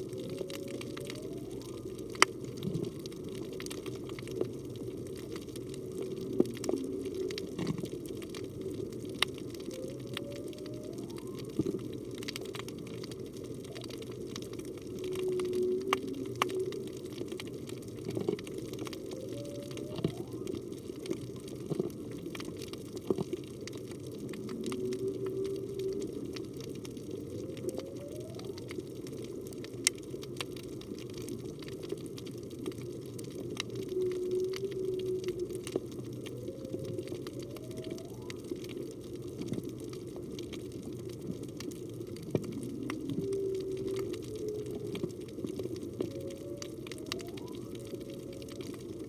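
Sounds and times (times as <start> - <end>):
whale song moans and tones: 0.0 - 49.0.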